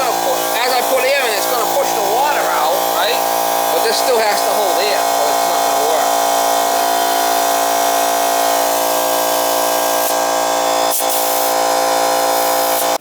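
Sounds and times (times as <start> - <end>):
electric air compressor running: 0.0 - 13.0.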